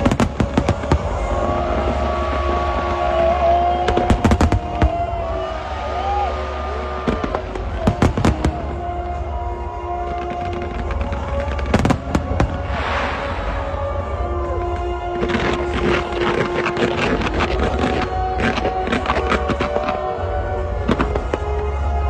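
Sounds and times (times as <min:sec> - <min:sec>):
fireworks bangs: 0:00.0 - 0:05.8, 0:06.4 - 0:21.9
fireworks crackle: 0:00.0 - 0:22.0
music: 0:00.0 - 0:22.0.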